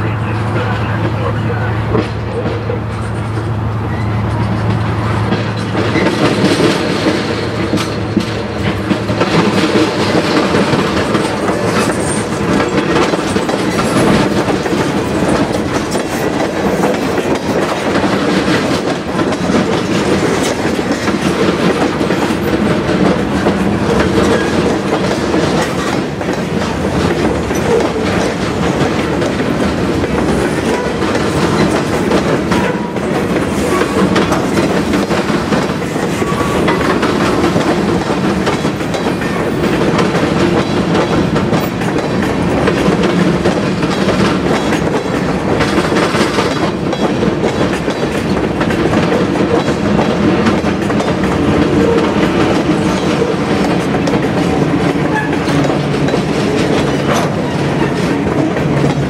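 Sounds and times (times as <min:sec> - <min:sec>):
rapid clicking of train wheels: 0:00.0 - 0:59.0
train wheels rumbling on rail: 0:00.0 - 0:59.0.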